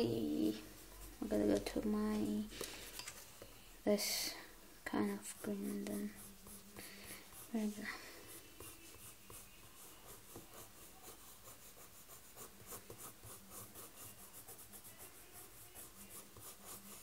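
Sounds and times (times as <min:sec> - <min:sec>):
colored pencil scratching paper: 0:00.0 - 0:02.5, 0:04.3 - 0:17.0.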